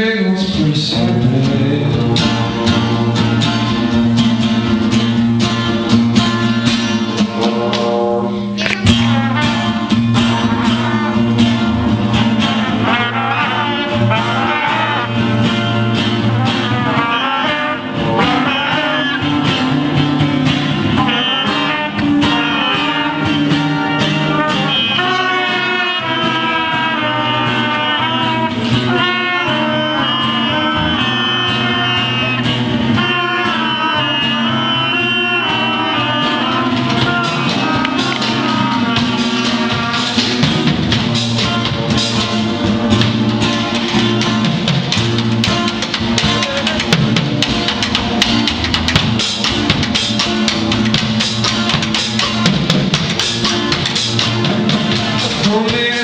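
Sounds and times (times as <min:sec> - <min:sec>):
guitar: 0:00.0 - 0:56.0
steady beat: 0:01.1 - 0:56.0
lead melody: 0:01.3 - 0:56.0.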